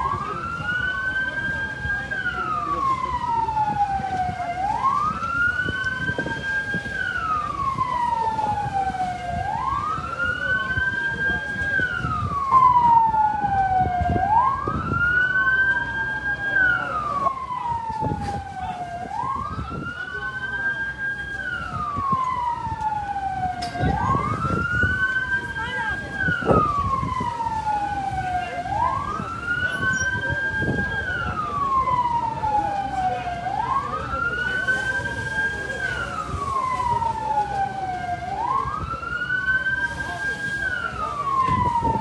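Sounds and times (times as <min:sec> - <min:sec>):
fire engine siren wailing: 0:00.0 - 0:42.0.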